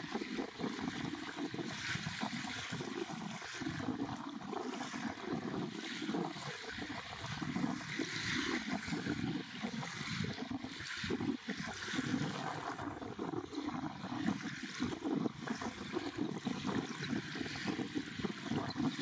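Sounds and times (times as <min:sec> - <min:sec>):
small waves breaking on beach: 0:00.0 - 0:19.0.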